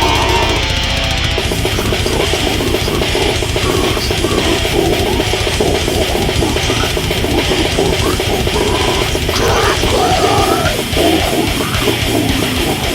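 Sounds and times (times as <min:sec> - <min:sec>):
death metal music: 0:00.0 - 0:12.9.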